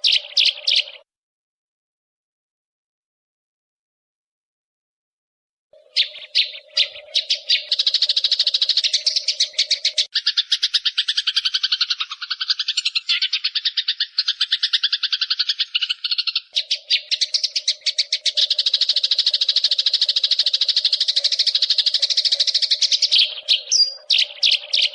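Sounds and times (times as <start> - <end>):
sparrows chattering: 0.0 - 1.0, 5.8 - 24.9.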